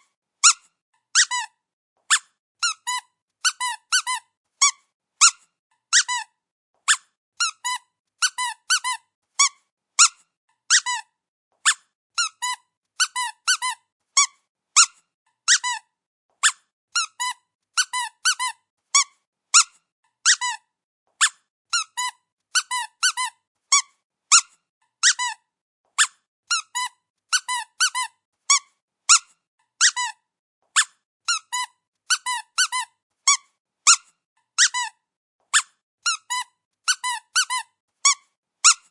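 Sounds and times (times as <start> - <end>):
squeaky dog toy squeaking: 0.4 - 38.9.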